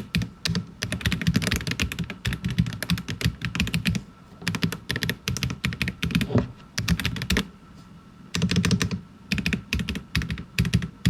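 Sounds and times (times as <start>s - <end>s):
mechanical keyboard typing: 0.0s - 7.5s, 8.4s - 10.9s.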